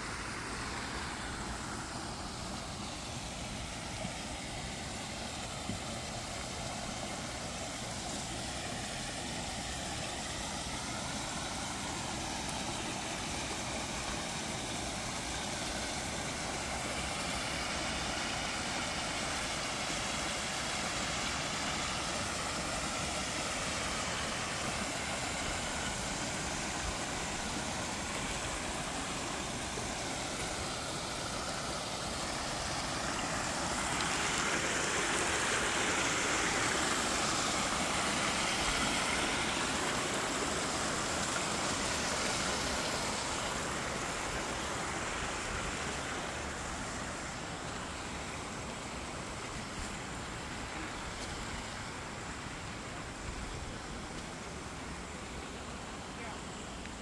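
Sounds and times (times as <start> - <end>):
waterfall splashing into pond: 0.0 - 57.0.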